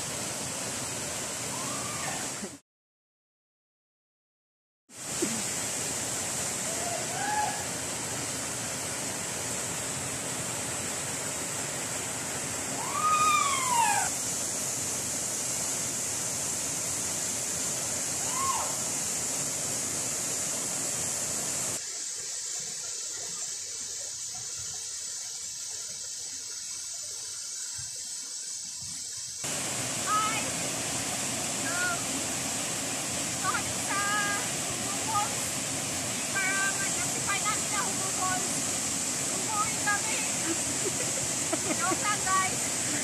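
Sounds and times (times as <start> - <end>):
waterfall rushing: 0.0 - 2.6, 5.0 - 24.6, 29.4 - 43.0.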